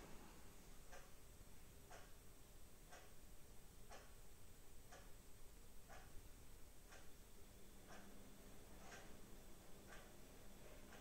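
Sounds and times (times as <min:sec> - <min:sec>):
faint clock ticking: 0:00.0 - 0:11.0.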